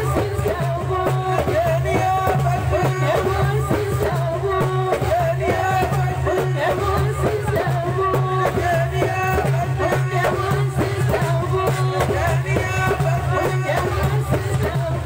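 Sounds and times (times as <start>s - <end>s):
percussion steady beat: 0.0s - 15.0s.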